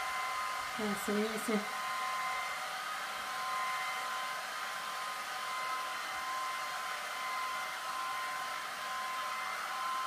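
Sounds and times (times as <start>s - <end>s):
hair dryer running: 0.0s - 10.0s.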